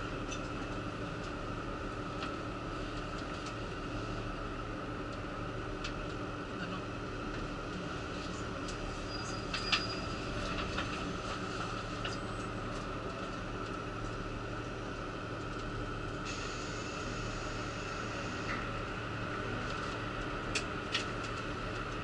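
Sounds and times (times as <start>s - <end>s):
diesel railcar engine idling: 0.0s - 22.0s.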